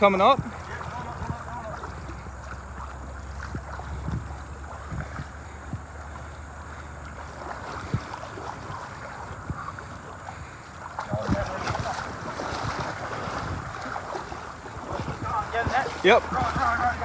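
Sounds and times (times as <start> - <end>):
rushing creek water: 0.0 - 17.0
wind buffeting microphone: 0.0 - 17.0.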